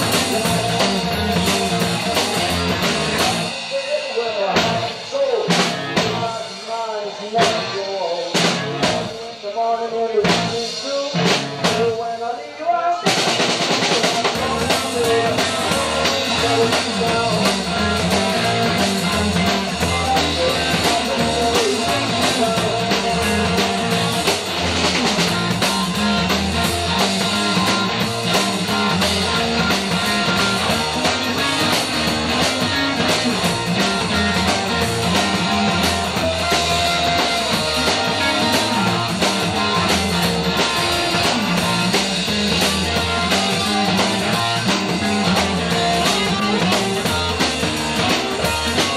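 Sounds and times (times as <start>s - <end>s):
drums: 0.0s - 48.9s
rock band playing: 0.0s - 48.9s.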